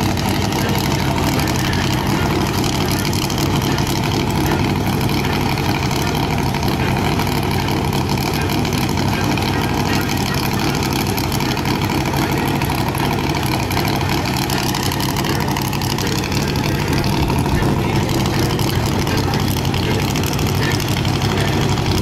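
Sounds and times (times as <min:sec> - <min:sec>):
vehicle engine misfiring: 0:00.0 - 0:22.0.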